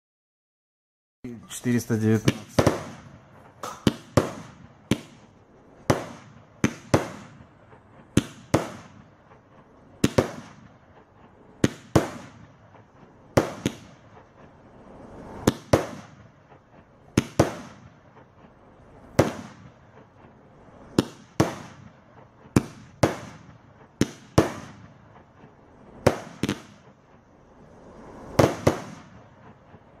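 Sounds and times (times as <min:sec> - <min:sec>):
fireworks bangs with echo: 0:01.8 - 0:30.0.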